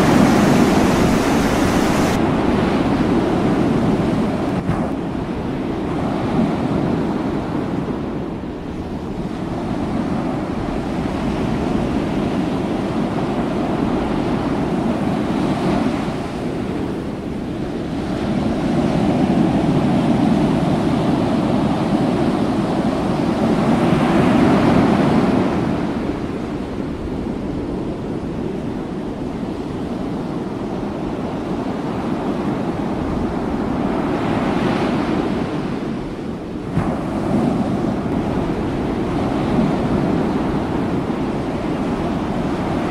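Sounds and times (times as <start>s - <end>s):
open sea noise: 0.0s - 42.9s
wind buffeting the microphone: 0.0s - 42.9s.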